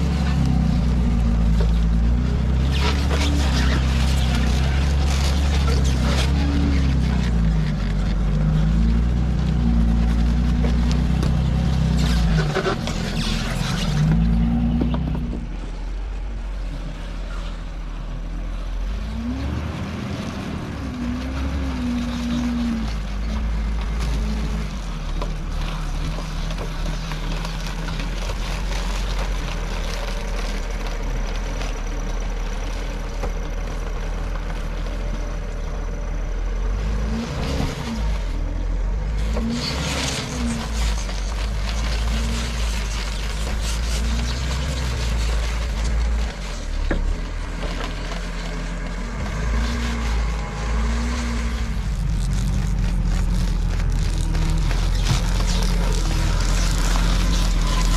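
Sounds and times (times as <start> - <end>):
tracked vehicle engine revving: 0.0 - 57.9.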